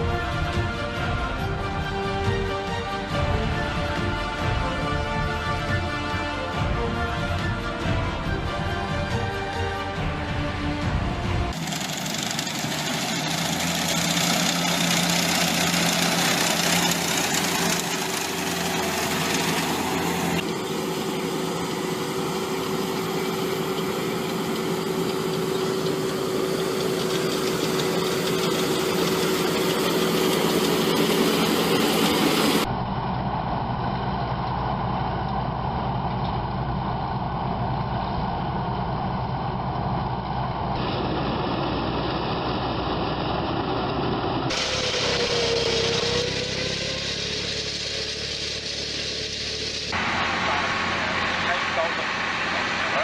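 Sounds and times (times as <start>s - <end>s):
heavy farm machinery engines: 0.0s - 53.0s.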